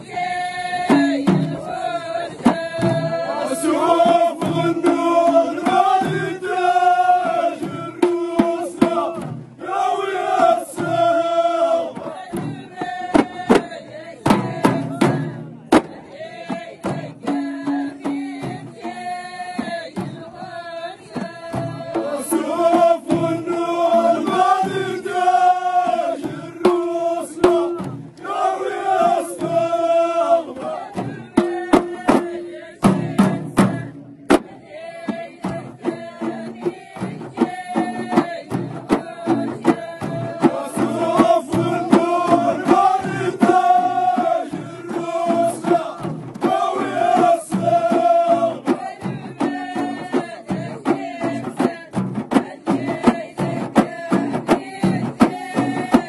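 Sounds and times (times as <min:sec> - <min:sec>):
men chanting together: 0:00.0 - 0:56.0
frame drum strikes: 0:00.2 - 0:20.4, 0:21.1 - 0:56.0.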